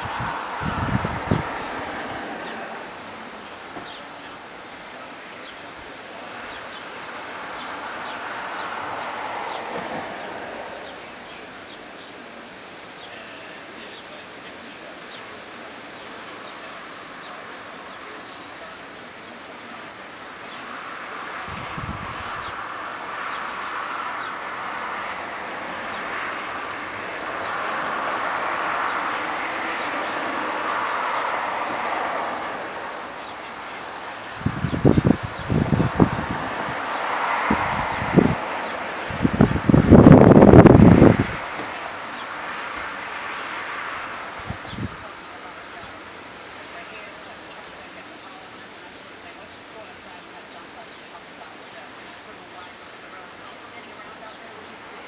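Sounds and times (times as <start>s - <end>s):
wind rustling tree leaves: 0.0s - 55.0s.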